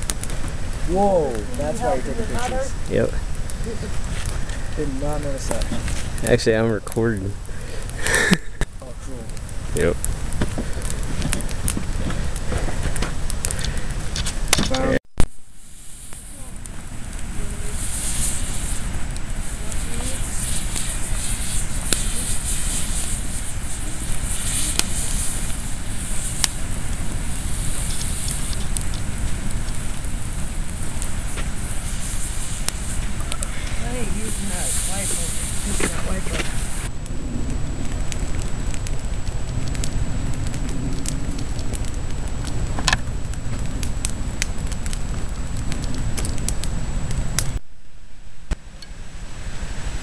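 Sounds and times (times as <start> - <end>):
campfire hissing and crackling: 0.0 - 50.0
low rumble: 0.0 - 50.0.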